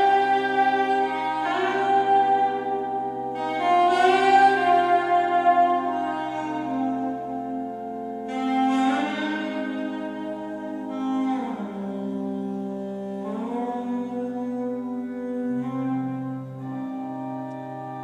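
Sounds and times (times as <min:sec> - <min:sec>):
slow instrumental music on loudspeakers: 0:00.0 - 0:18.0.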